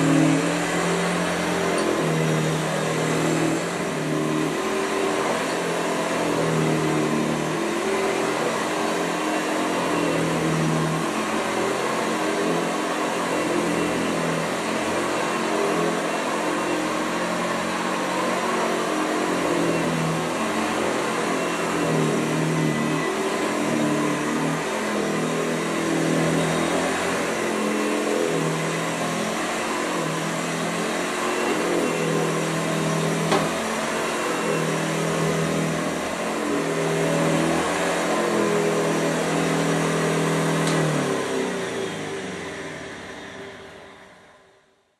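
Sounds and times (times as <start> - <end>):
vacuum cleaner running on carpet: 0.0 - 44.4.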